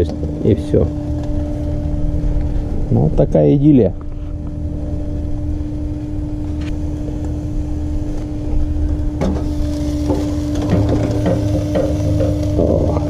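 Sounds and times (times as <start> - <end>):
gas grill burner hum: 0.0 - 13.0.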